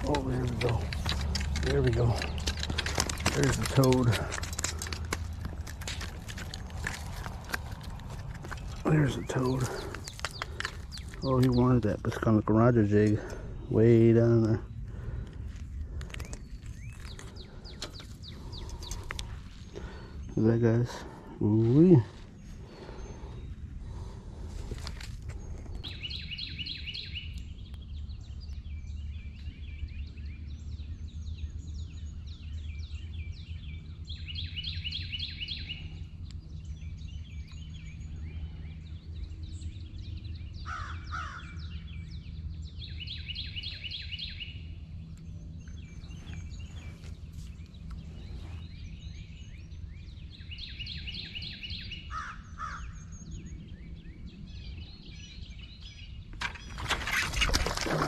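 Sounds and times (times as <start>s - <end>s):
steady low rumble: 0.0s - 57.8s
lower harsh bird calls: 0.0s - 58.0s.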